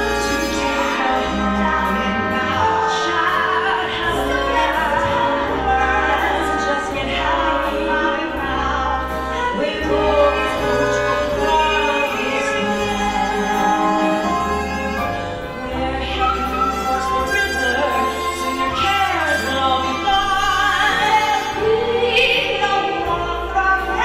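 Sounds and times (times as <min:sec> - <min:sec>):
live band accompaniment: 0:00.0 - 0:24.0
women singing a duet: 0:00.0 - 0:24.0.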